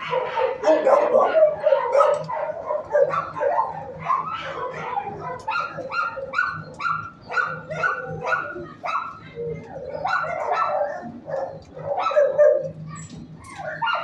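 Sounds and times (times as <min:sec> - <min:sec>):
dogs barking: 0:00.0 - 0:14.0.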